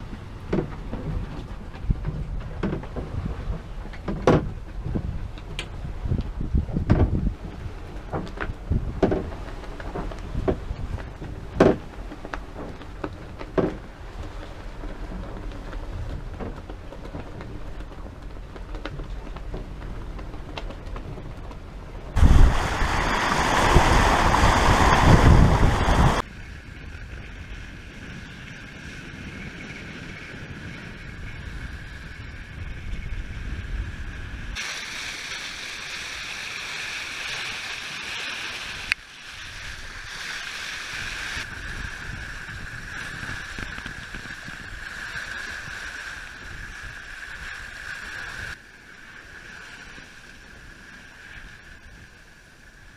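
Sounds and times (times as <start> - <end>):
water rushing along a hull: 0.0 - 52.9
wind: 0.0 - 52.9.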